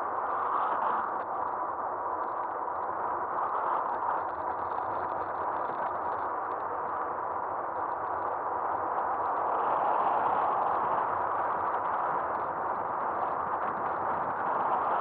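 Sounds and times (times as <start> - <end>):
faint steady whine: 0.0 - 15.0
wind and tyre noise: 0.0 - 15.0.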